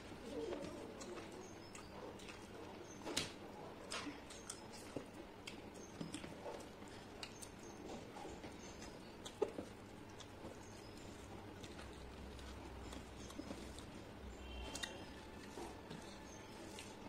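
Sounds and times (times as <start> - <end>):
person chewing and smacking: 0.2 - 17.0.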